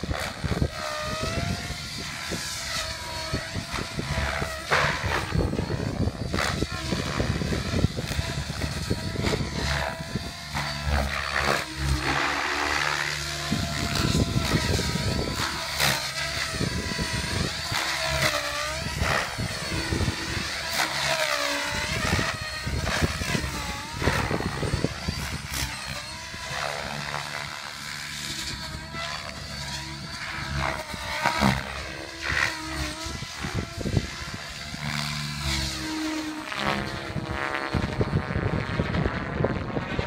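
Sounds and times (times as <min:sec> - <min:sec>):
model helicopter rotor whine: 0:00.0 - 0:40.0.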